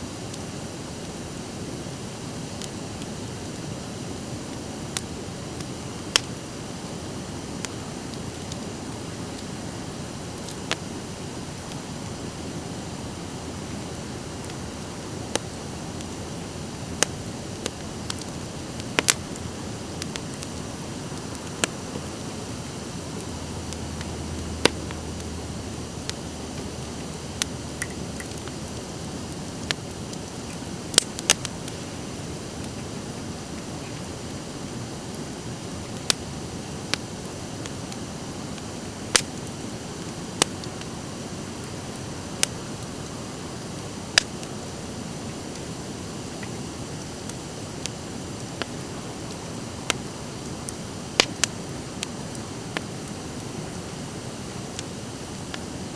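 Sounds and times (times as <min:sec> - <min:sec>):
fire hiss: 0:00.0 - 0:55.9
campfire crackling and popping: 0:00.1 - 0:55.9.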